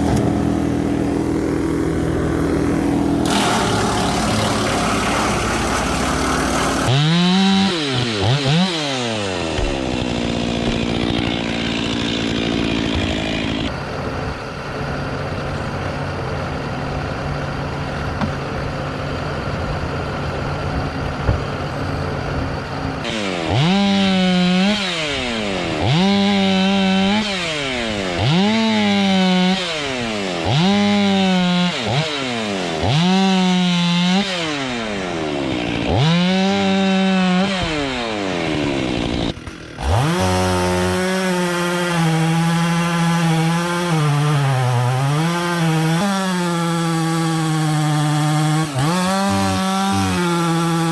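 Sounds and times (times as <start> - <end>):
chainsaw idling and revving: 0.0 - 50.9.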